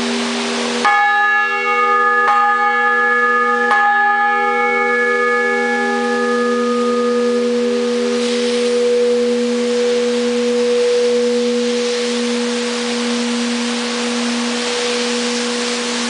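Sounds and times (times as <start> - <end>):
church bell ringing: 0.0 - 16.0
deep bell hum: 0.0 - 16.0.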